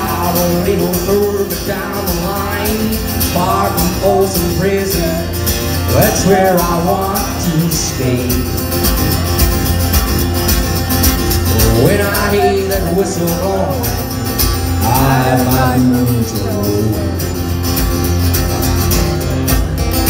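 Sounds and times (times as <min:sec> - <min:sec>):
acoustic guitar country rhythm: 0:00.0 - 0:20.0.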